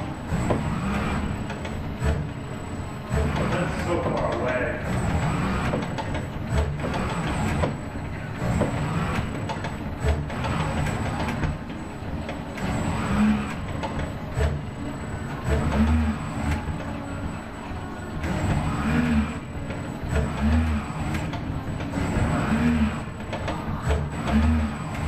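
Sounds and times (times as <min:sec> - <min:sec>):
robot arm motors running: 0:00.0 - 0:25.0.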